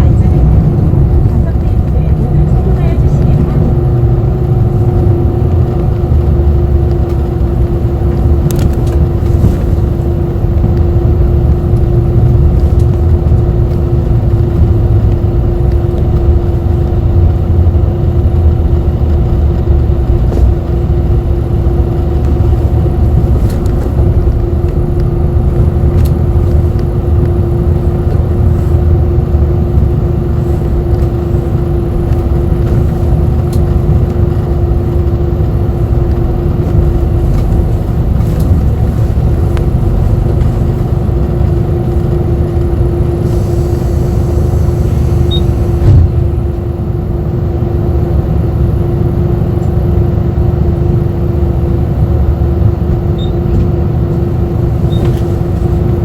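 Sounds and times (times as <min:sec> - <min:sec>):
bus engine and road rumble: 0:00.0 - 0:56.0
constant hum tone: 0:00.0 - 0:56.0.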